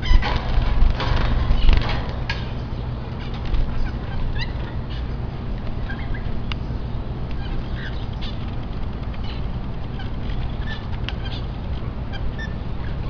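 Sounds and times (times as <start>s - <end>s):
caged birds chirping: 0.0s - 13.0s
steady low rumble: 0.0s - 13.0s.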